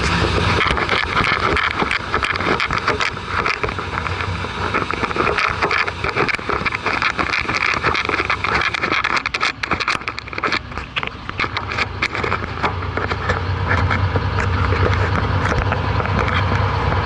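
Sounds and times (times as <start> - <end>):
fast clicking rattle: 0.0 - 17.0
truck engine idling: 0.0 - 17.0.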